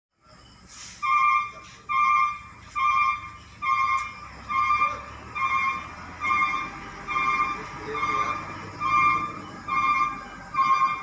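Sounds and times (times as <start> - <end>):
reversing alarm beeping: 0.2 - 11.0
truck engine rumble: 0.2 - 11.0.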